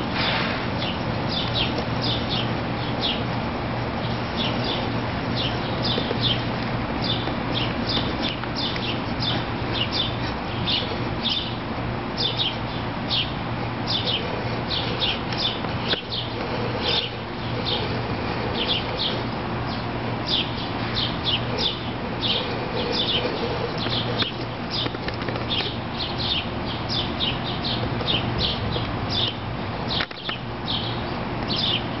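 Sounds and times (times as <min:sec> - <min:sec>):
steady low hum: 0:00.0 - 0:32.0
small birds chirping: 0:00.8 - 0:32.0.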